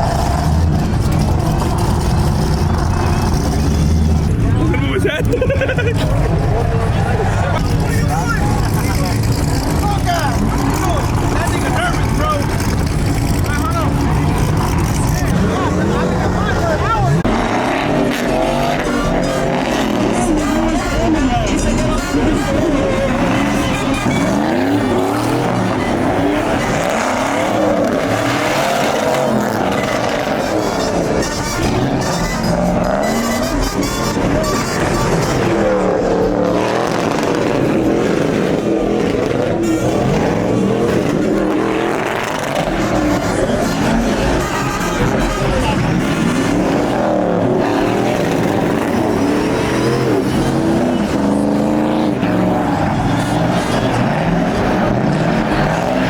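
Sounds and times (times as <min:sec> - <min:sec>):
tires squealing and skidding: 0:00.0 - 0:56.0
truck engine revving: 0:00.0 - 0:56.0.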